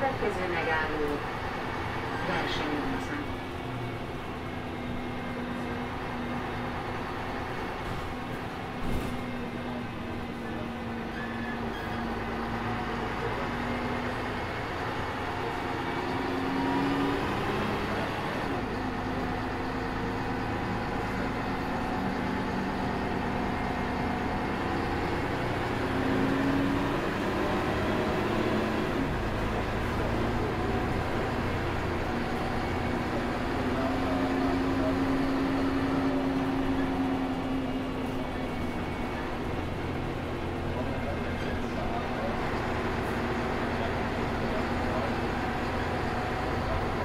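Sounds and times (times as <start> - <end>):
bus diesel engine: 0.0 - 47.0.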